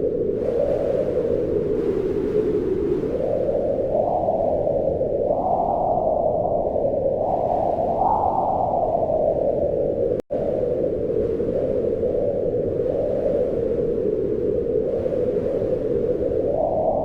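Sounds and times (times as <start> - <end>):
wind blowing in gusts: 0.0 - 17.0.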